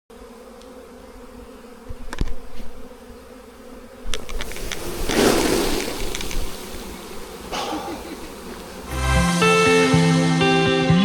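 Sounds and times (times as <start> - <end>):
honeybees buzzing: 0.1 - 10.7.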